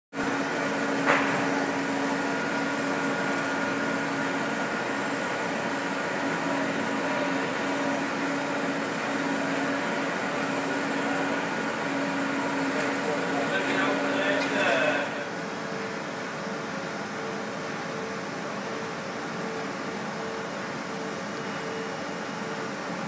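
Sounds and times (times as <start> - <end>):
lathe humming: 0.2 - 20.8.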